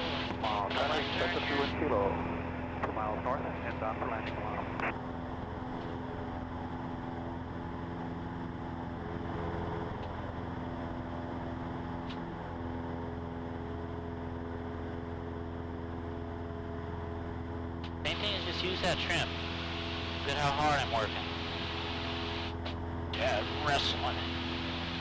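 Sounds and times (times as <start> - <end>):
airplane engine and propeller droning: 0.0 - 25.0.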